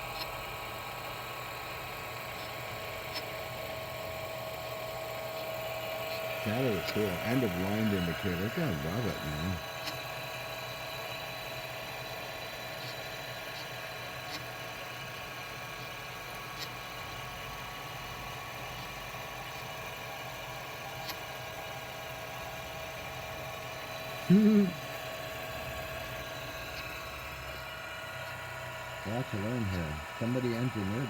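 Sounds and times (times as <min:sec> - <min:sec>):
teletype motor humming: 0:00.0 - 0:31.0.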